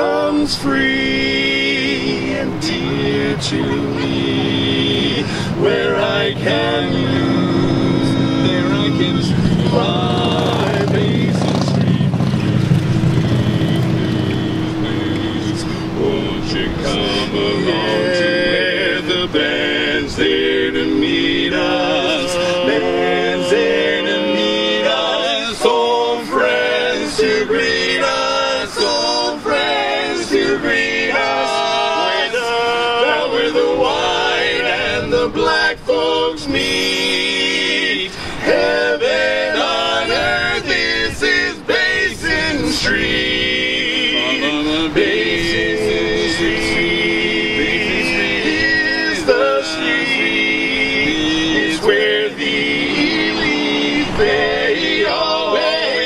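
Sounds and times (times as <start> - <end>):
male quartet singing a cappella: 0.0 - 56.0.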